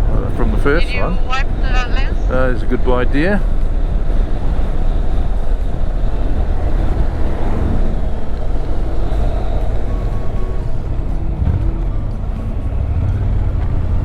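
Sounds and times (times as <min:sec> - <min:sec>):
motorcycle engine: 0:00.0 - 0:14.0
road noise: 0:00.0 - 0:14.0
wind rushing: 0:00.0 - 0:14.0.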